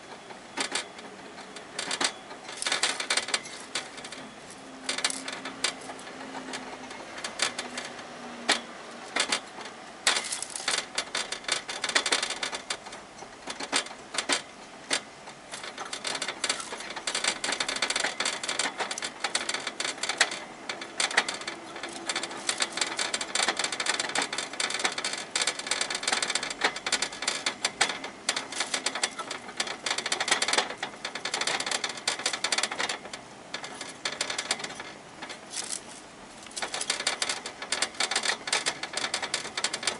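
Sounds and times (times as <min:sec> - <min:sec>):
hamster gnawing on wire bars: 0:00.1 - 0:39.9.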